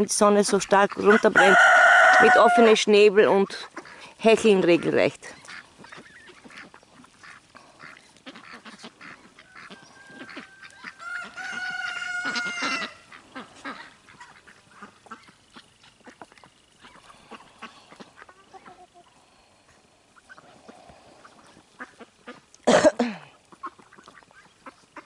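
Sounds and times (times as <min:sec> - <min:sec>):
ducks calling: 0:00.2 - 0:22.7, 0:23.3 - 0:25.0.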